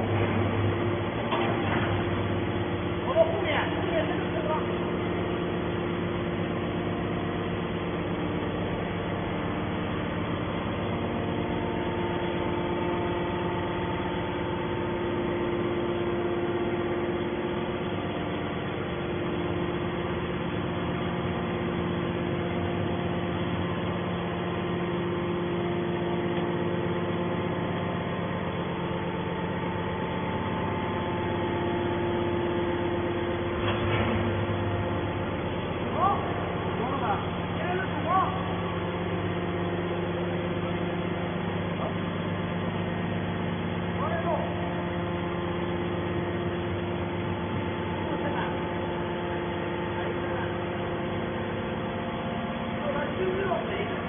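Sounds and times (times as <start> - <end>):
hydraulic machine humming: 0.0 - 54.0.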